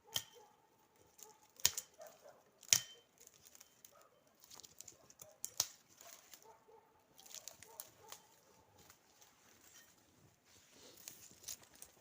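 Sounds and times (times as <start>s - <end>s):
dry wood cracking: 0.9s - 9.9s, 10.9s - 12.0s.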